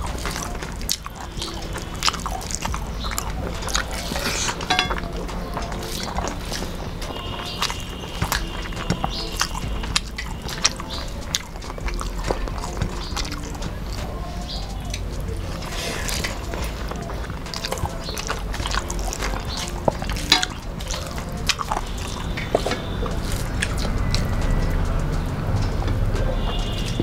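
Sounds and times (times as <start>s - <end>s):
chewing smacks: 0.0s - 27.0s
fingers mixing rice: 0.0s - 27.0s.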